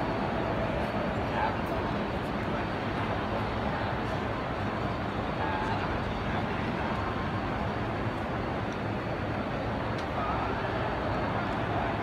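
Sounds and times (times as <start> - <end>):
crowd and hall noise: 0.0 - 12.0
faint indistinct voices: 0.0 - 12.0.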